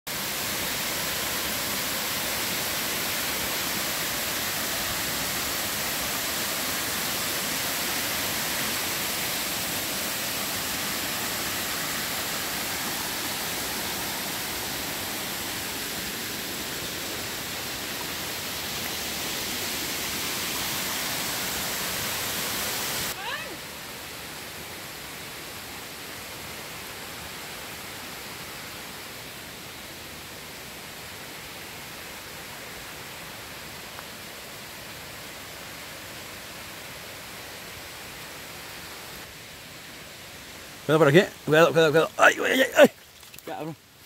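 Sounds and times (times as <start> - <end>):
waterfalls rushing: 0.1 - 44.0.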